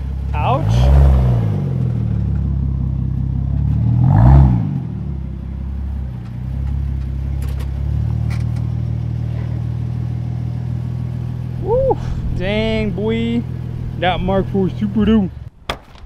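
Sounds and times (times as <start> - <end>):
engine revving: 0.0 - 15.5
car engine idling: 0.0 - 15.6.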